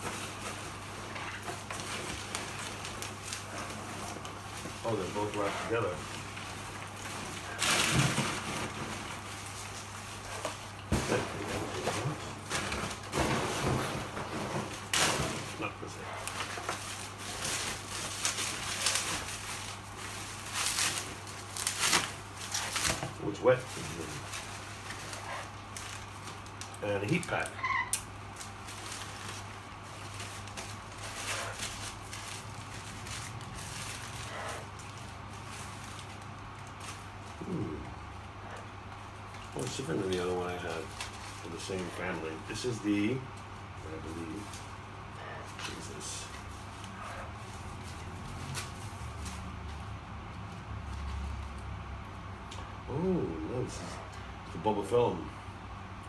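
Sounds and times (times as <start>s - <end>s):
plastic wrapping crinkling: 0.0s - 37.9s, 38.5s - 44.9s, 45.5s - 49.9s
steady low hum: 0.0s - 56.0s.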